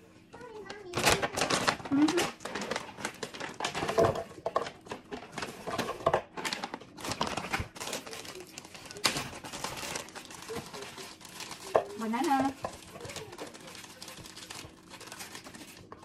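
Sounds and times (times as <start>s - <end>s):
plastic bag crinkling: 0.6s - 16.0s
frozen fruit clattering into blender jar: 0.7s - 16.0s.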